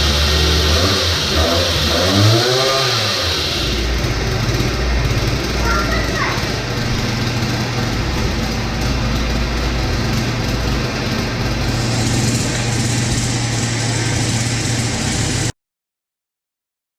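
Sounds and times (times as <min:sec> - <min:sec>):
small two-stroke engine running: 0:00.0 - 0:15.5.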